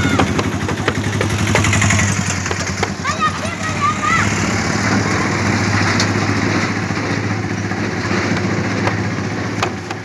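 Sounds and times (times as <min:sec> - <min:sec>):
engine humming with hiss: 0:00.0 - 0:10.0.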